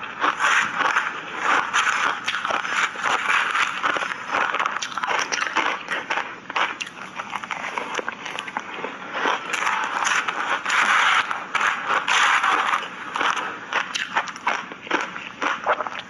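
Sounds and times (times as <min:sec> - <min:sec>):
shaved ice being chewed: 0:00.0 - 0:16.0.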